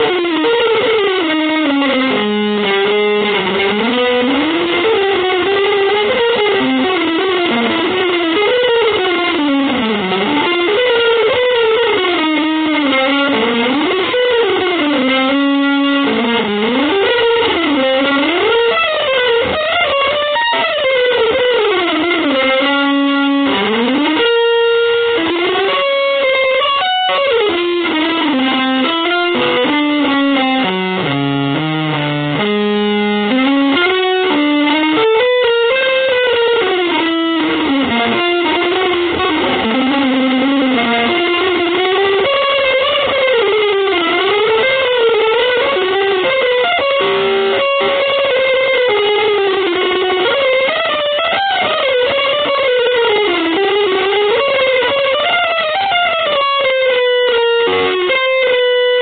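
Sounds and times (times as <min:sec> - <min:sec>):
distorted electric guitar playing: 0:00.0 - 0:59.0.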